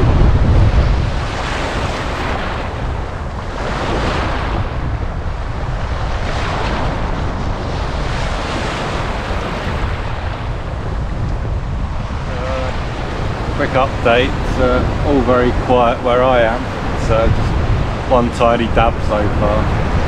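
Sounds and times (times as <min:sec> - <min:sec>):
waves washing over sand: 0:00.0 - 0:20.0
wind rumble on microphone: 0:00.0 - 0:20.0.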